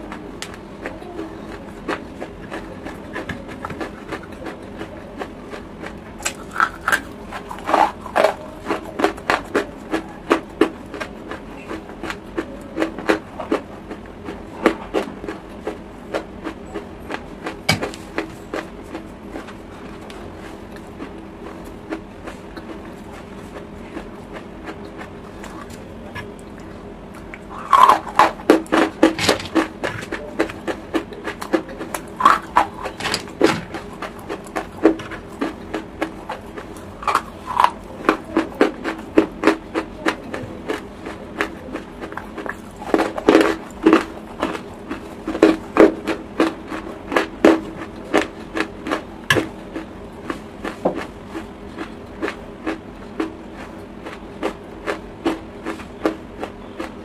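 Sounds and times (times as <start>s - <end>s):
crunchy chewing: 0.0s - 57.0s
faint steady hum: 0.0s - 57.0s.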